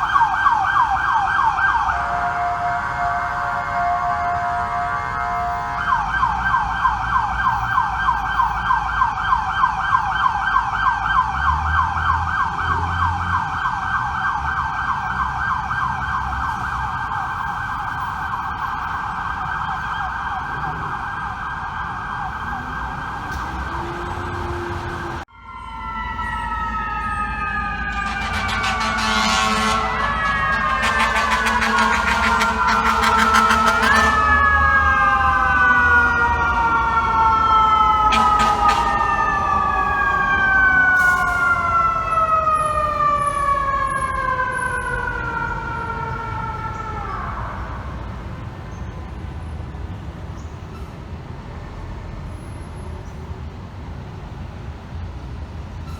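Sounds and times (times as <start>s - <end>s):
siren sliding down in pitch: 0.0s - 47.9s
fire engine siren yelping: 0.0s - 49.8s.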